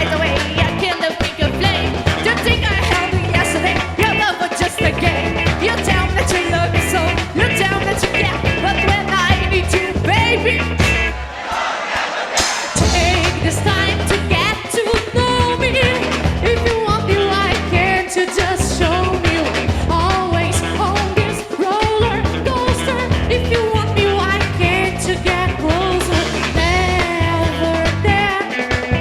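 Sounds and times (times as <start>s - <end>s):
person singing: 0.0s - 10.7s, 12.4s - 29.0s
rock batucada band music: 0.0s - 29.0s.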